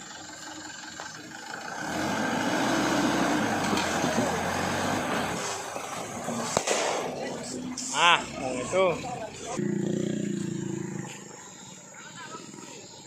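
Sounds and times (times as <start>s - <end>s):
truck engine straining uphill: 0.0s - 11.9s.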